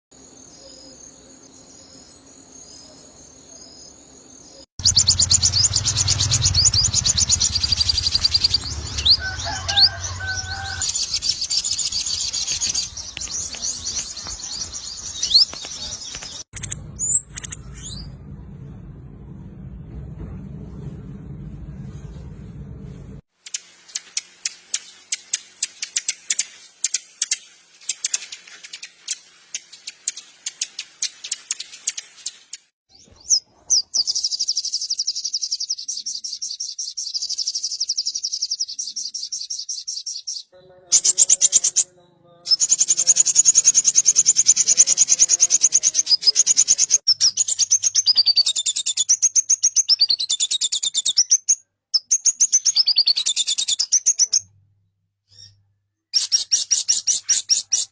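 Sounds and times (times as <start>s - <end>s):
bird chirping and trilling: 0.4s - 18.2s, 23.5s - 54.5s, 55.2s - 57.9s.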